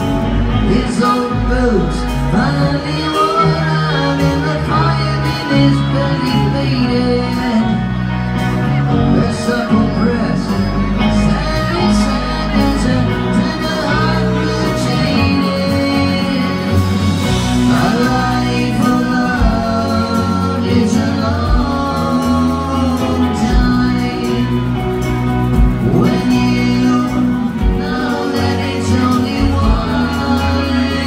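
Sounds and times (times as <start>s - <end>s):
live rock band playing: 0.0s - 31.0s
vocalist singing: 0.0s - 31.0s.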